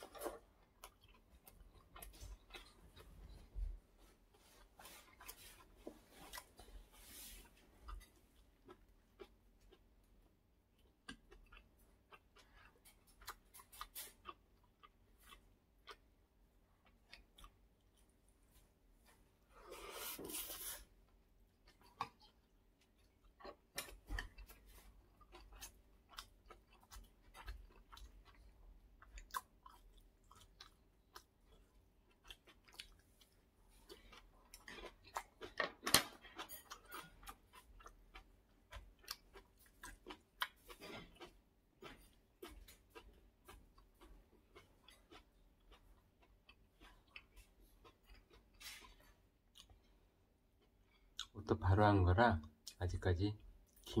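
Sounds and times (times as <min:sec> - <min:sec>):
chewing and mouth sounds: 0:00.0 - 0:51.4.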